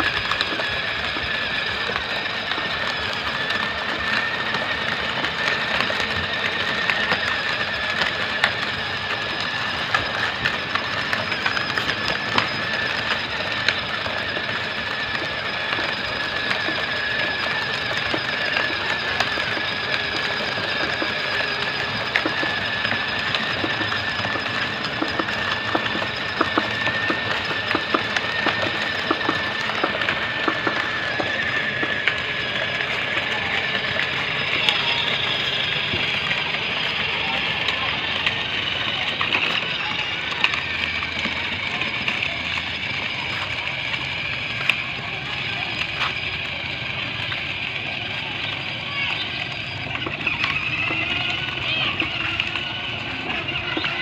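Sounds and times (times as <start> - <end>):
toy electric motor whine: 0.0 - 54.0.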